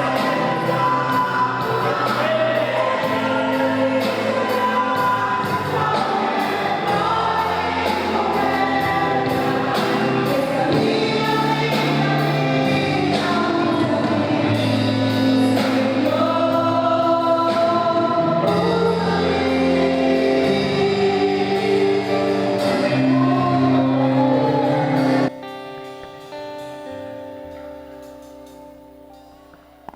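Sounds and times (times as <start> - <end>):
group singing: 0.0 - 25.3
band playing steady beat: 0.0 - 29.9.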